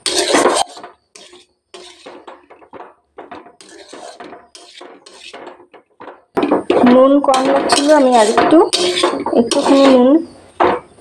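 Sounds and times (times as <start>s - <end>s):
metal spatula scraping a pan: 0.0s - 10.9s.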